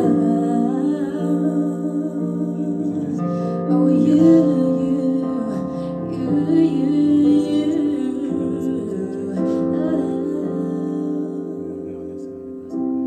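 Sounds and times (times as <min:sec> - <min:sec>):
person singing wordless vocal: 0:00.0 - 0:13.0.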